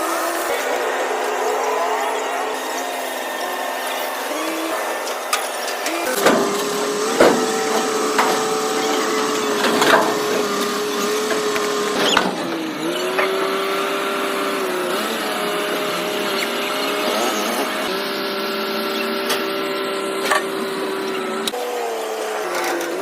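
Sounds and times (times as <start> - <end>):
motor whining: 0.0 - 23.0.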